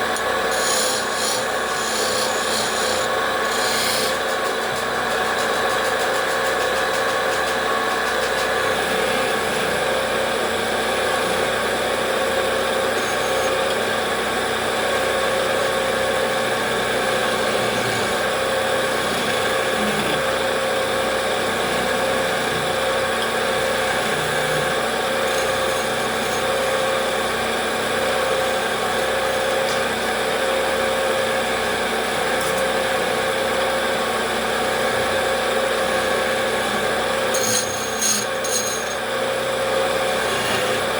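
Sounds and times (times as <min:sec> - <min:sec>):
wood lathe motor humming: 0:00.0 - 0:40.9.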